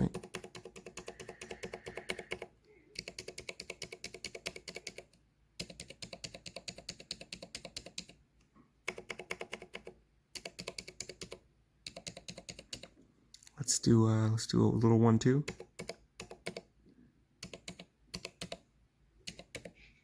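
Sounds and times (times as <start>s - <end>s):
keyboard typing: 0.0s - 8.2s, 8.8s - 13.0s, 15.4s - 16.7s, 17.4s - 20.0s.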